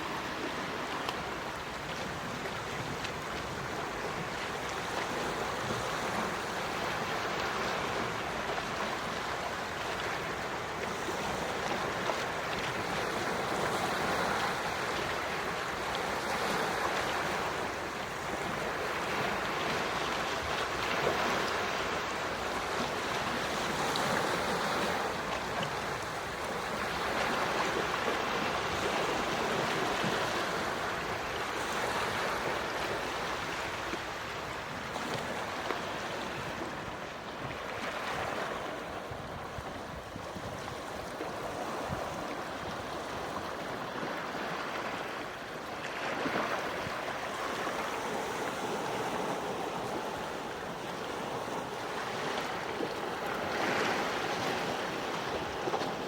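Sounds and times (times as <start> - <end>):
ocean waves washing in and out: 0.0 - 56.0.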